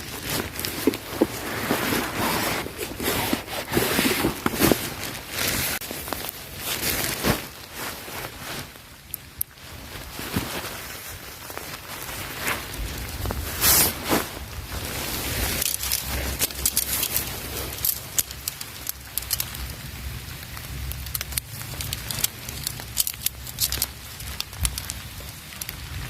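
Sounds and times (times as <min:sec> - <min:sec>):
rain falling: 0:00.0 - 0:26.0
sharp crackles and clicks: 0:00.0 - 0:26.0.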